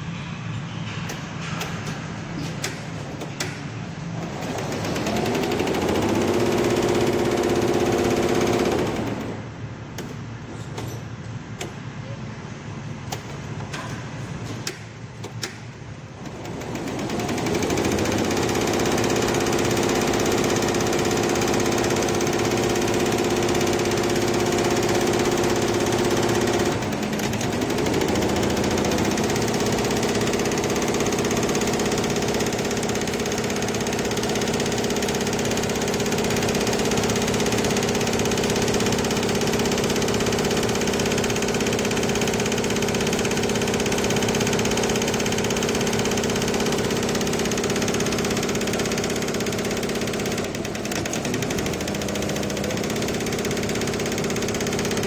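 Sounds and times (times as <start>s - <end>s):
embroidery machine running: 4.2s - 9.4s, 16.2s - 55.0s.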